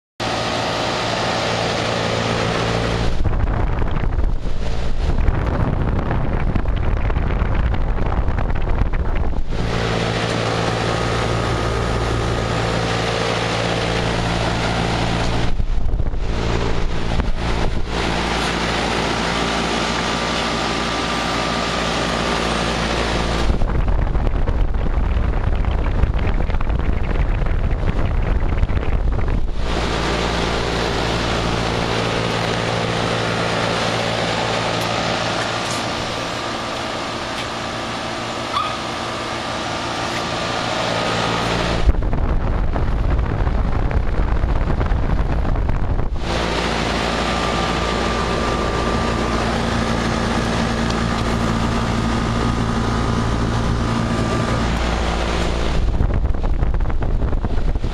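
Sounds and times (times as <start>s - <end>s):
heat pump unit humming: 0.2s - 57.9s
wind buffeting microphone: 0.8s - 57.9s.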